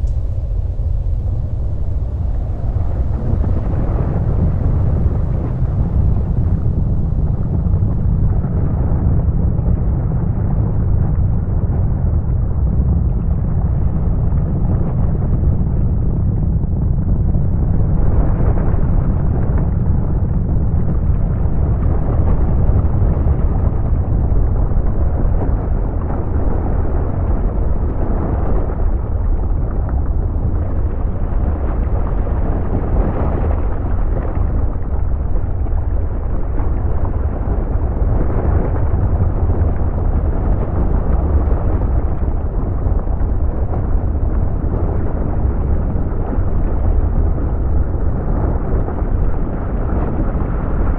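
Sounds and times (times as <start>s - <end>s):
volcanic eruption deep rumble: 0.0s - 50.9s.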